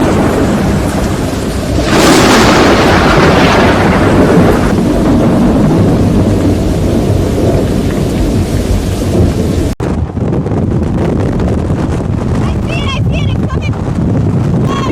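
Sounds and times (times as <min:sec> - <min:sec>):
heavy rain: 0:00.0 - 0:14.9
thunder cracking and rumbling: 0:00.0 - 0:14.9.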